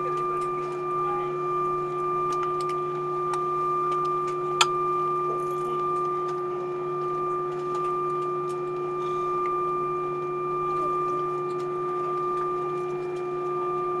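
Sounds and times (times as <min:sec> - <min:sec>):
aircraft systems whine and hum: 0:00.0 - 0:14.0.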